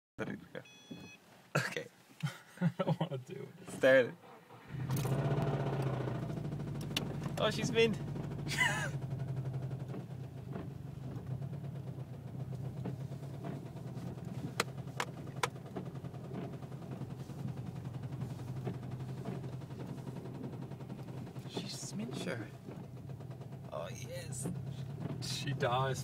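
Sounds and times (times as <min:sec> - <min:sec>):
car engine idling: 0:03.7 - 0:26.0
sharp engine knocks: 0:04.7 - 0:26.0.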